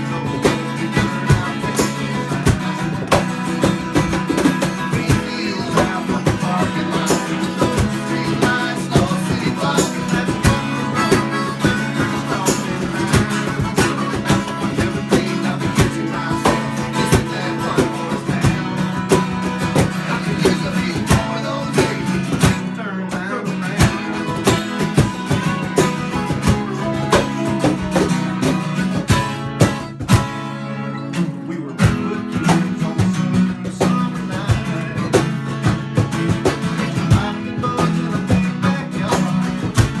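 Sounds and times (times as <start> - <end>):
acoustic guitar strumming: 0.0 - 40.0
country band playing live: 0.0 - 40.0.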